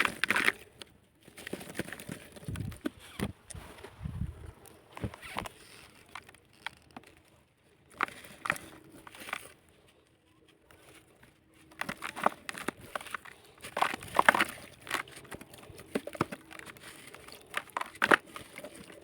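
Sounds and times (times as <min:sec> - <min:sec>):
dried cement crumbling: 0:00.0 - 0:19.0.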